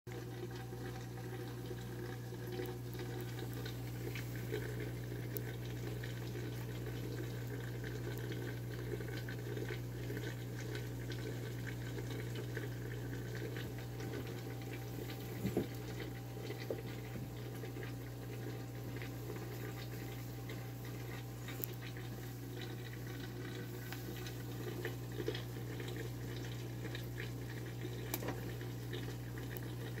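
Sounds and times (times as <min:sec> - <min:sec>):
water trickling: 0:00.1 - 0:30.0.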